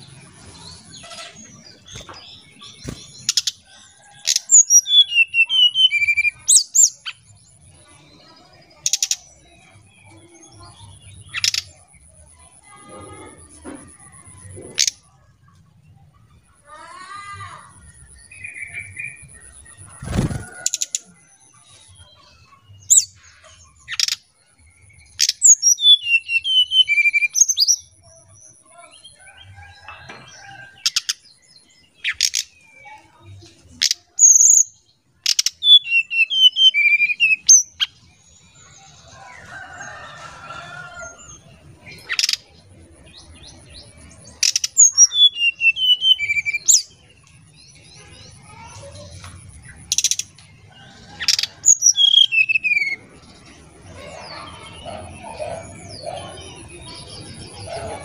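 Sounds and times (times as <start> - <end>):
bird singing fluty song: 0.0 - 58.0.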